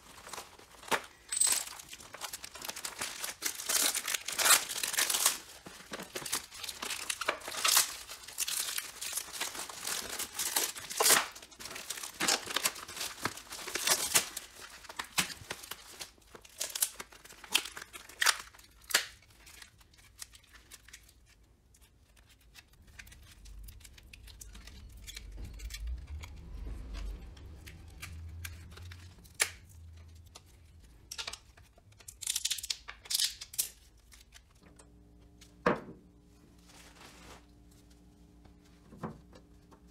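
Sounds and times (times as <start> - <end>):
plastic film crinkling and tearing: 0.0 - 34.6.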